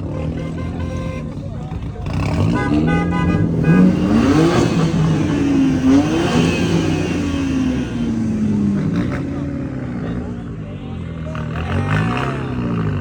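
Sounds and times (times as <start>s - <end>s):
car engine revving: 0.0s - 13.0s
traffic noise: 0.0s - 13.0s.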